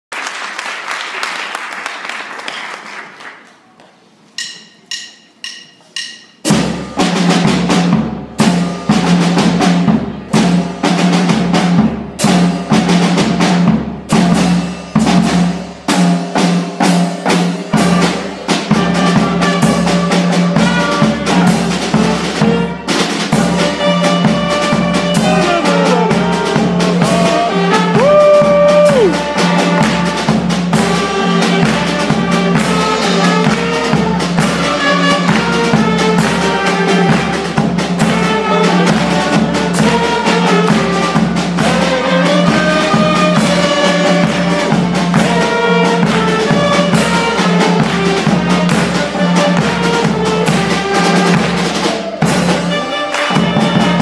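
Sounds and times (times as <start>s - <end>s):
count-in drum strokes: 4.4s - 54.0s
percussion and wind band playing: 4.4s - 54.0s.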